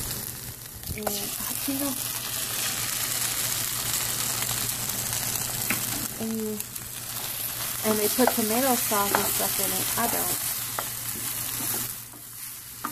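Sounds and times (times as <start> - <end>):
tortillas sizzling in oil: 0.0 - 12.9.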